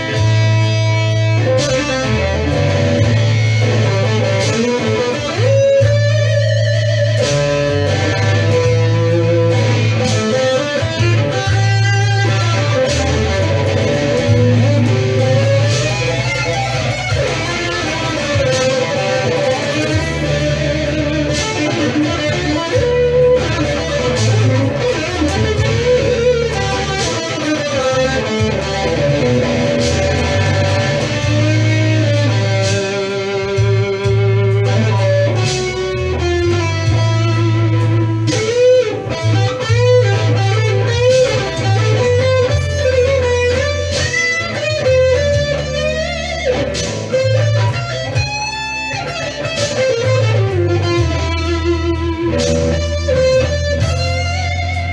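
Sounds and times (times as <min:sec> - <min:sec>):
bass line: 0:00.0 - 0:54.9
electric guitar blues lead: 0:00.0 - 0:54.9.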